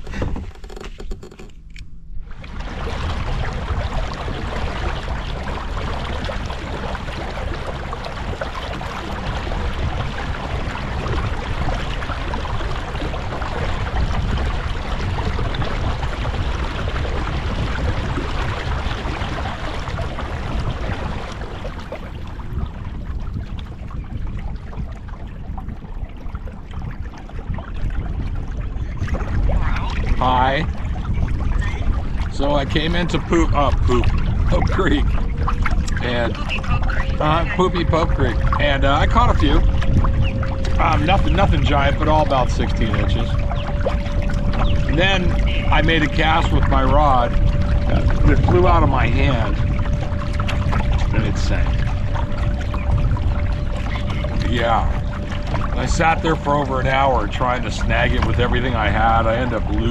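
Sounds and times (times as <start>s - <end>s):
water and wind rushing: 0.0s - 59.9s.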